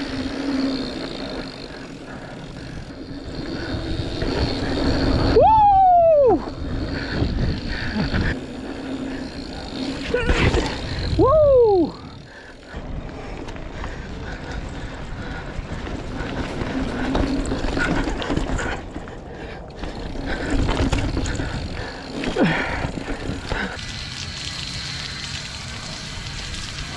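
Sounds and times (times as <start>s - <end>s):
small rattles and ticks: 0.0s - 5.3s, 6.2s - 26.9s
bicycle rolling on dirt: 0.0s - 26.9s.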